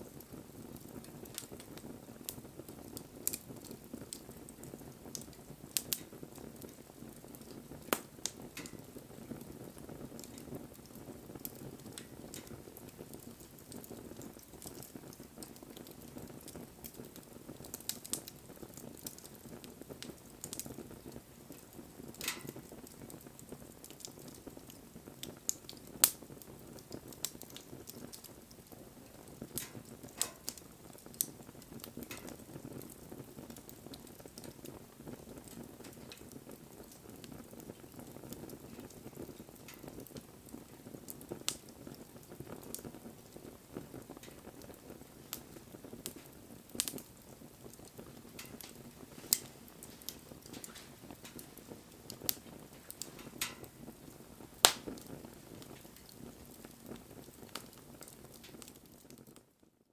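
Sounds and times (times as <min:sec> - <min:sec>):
wood fire rumbling: 0:00.0 - 0:59.7
fire crackling and popping: 0:00.0 - 0:59.9.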